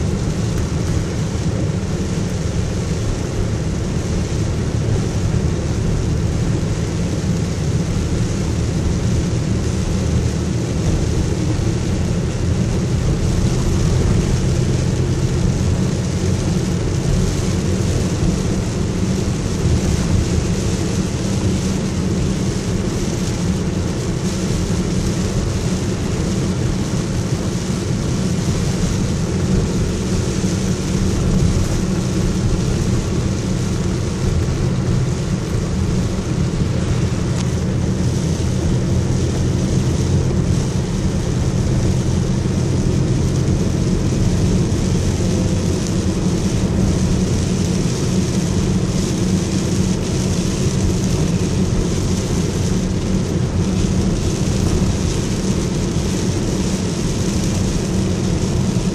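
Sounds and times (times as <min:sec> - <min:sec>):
engine and tyre hum: 0:00.0 - 0:58.9
rain hitting windshield: 0:00.0 - 0:58.9.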